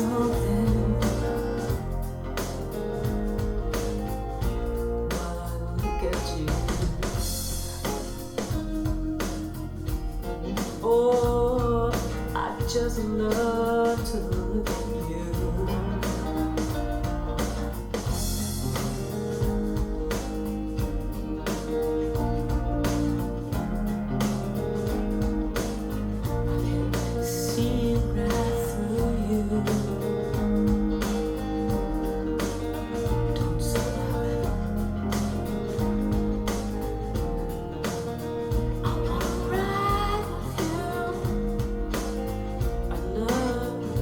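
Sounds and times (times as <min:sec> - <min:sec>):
band song over speakers: 0:00.0 - 0:44.0
bass line: 0:00.0 - 0:44.0
steady drum beat: 0:00.0 - 0:44.0.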